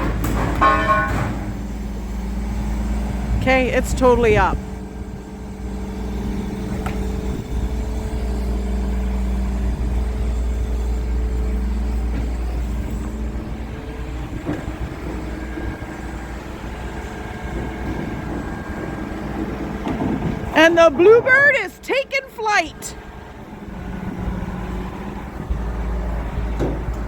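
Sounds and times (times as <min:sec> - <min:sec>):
crane diesel engine drone: 0:00.0 - 0:27.0.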